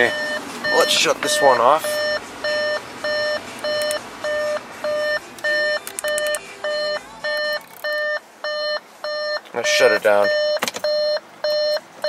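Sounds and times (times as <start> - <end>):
car warning chime beeping: 0.0 - 12.0.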